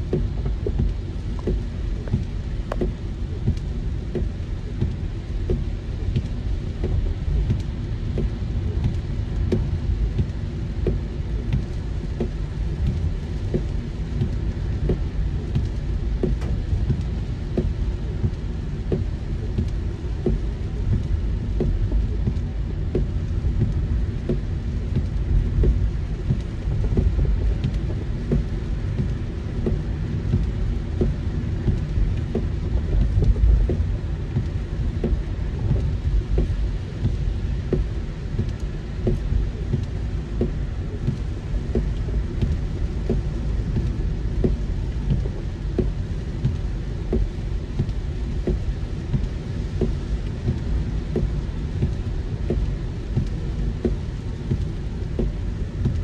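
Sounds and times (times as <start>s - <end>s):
rain drops hitting car roof: 0.0s - 56.0s
road rumble inside car: 0.0s - 56.0s.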